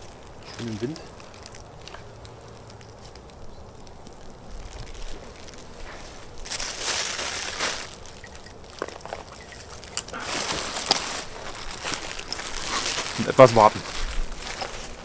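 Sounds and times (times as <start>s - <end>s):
twigs rustling and snapping: 0.0s - 15.0s.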